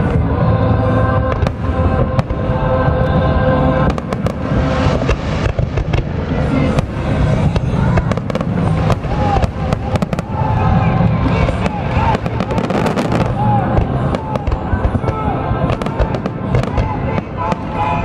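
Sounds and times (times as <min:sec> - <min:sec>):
fireworks bangs and crackles: 0:00.0 - 0:18.0
low rumble: 0:00.0 - 0:18.0
music: 0:00.0 - 0:18.0.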